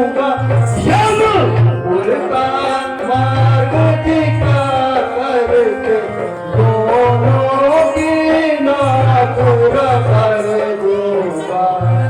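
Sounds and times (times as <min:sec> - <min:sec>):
rhythmic drum accompaniment: 0:00.0 - 0:11.1.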